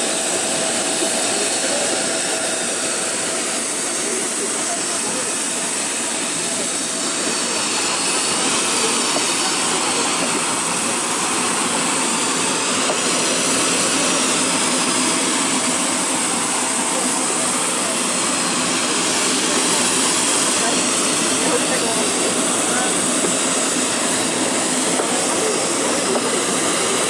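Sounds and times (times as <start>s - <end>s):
jet engine cabin noise: 0.0s - 27.0s.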